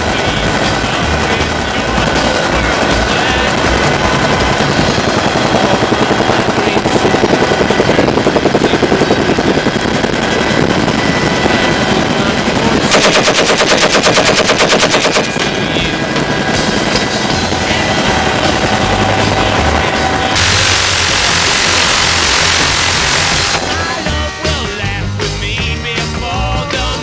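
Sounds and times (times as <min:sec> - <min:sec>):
machine gun firing bursts: 0:00.0 - 0:23.7
helicopter rotor and engine: 0:00.0 - 0:26.0.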